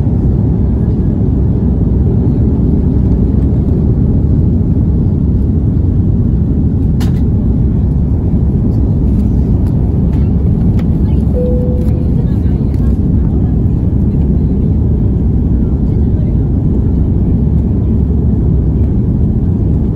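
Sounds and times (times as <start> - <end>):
jet engines rumbling in cabin: 0.0 - 19.9.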